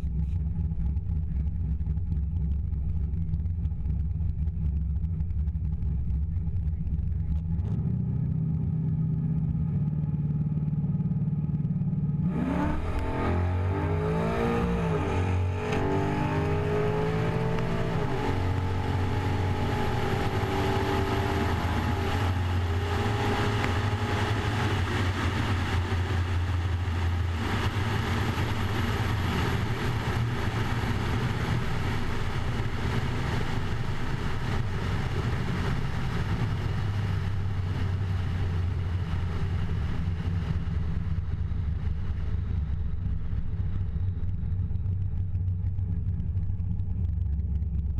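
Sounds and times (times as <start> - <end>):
car engine deep rumble: 0.0 - 47.9.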